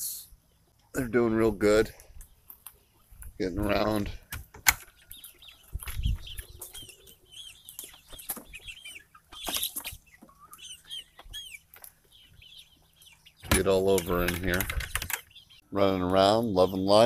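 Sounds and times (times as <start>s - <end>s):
young chickens peeping: 0.0s - 17.0s.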